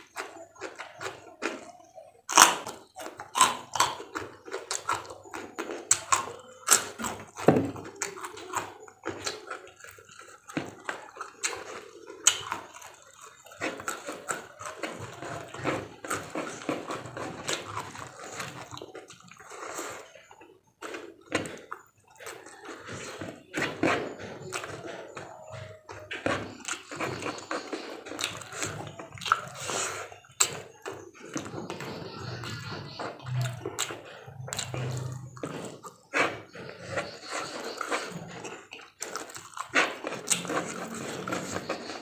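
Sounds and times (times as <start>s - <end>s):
crunching and chewing food: 0.0s - 42.0s
wet mouth sounds: 0.0s - 42.0s.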